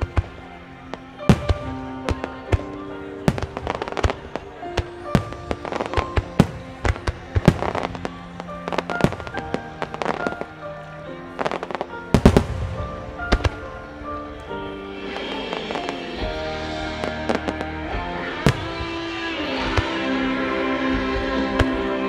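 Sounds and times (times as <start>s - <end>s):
fireworks launching and bursting: 0.0s - 22.0s
music with held tones: 0.0s - 22.0s.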